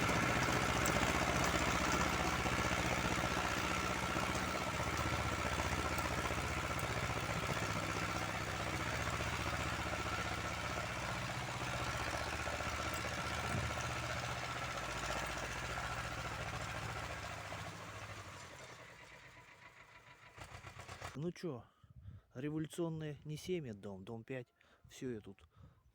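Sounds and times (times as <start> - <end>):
small engine running: 0.0 - 21.2.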